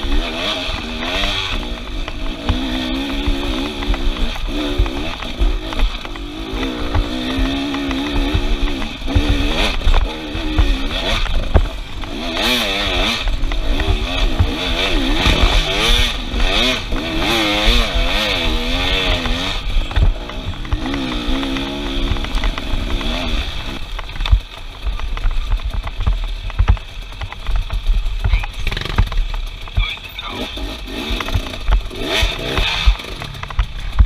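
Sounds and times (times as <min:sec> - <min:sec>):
low thuds: 0:00.0 - 0:30.0
off-road vehicle engine revving: 0:00.0 - 0:34.0.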